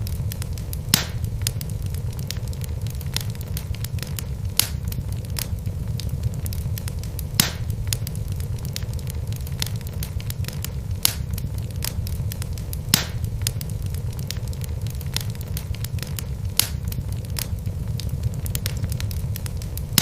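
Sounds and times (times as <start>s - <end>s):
burning logs crackling: 0.0s - 20.0s
fire rumbling: 0.0s - 20.0s
loud fire pops: 0.0s - 20.0s.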